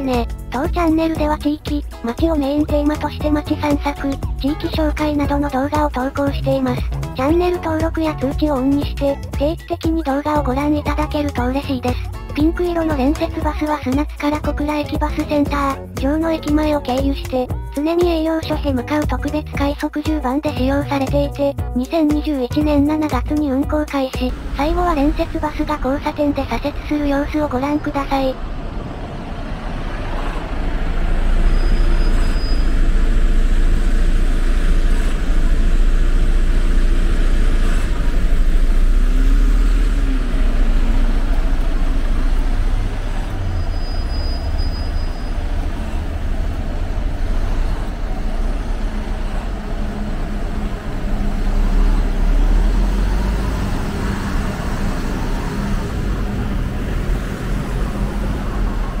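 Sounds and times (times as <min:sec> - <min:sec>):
bus diesel engine rumble: 0:00.0 - 0:59.0
street traffic: 0:00.0 - 0:59.0.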